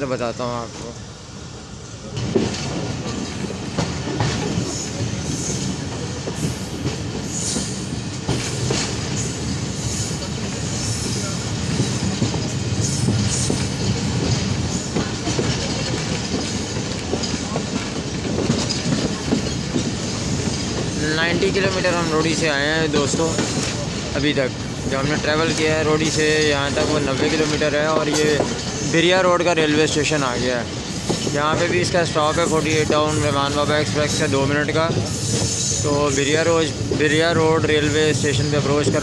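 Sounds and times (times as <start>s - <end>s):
train wheels rumbling on rails: 0.0s - 39.0s
clacks over rail joints: 2.1s - 39.0s.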